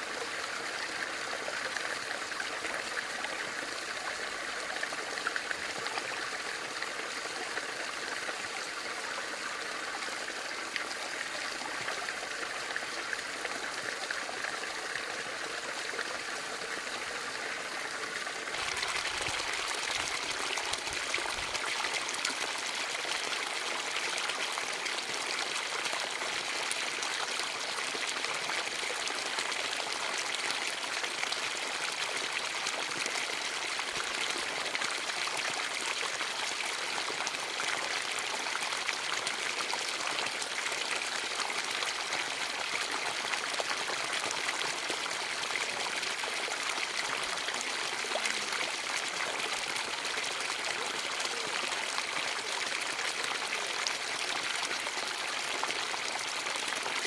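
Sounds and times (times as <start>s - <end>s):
fountain water trickling and splashing: 0.0s - 57.0s.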